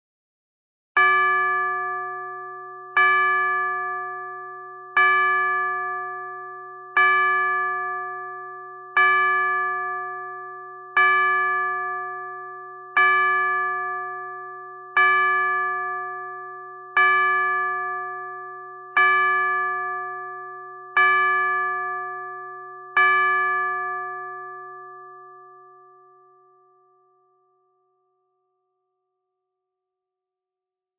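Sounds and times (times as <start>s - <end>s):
clock bell striking: 1.0s - 26.2s.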